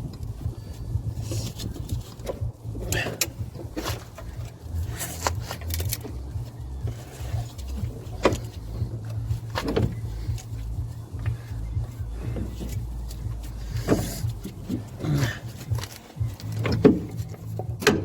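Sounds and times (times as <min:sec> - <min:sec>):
knocks and clinks of car parts: 0:00.0 - 0:18.0
steady low rumble: 0:00.0 - 0:18.0.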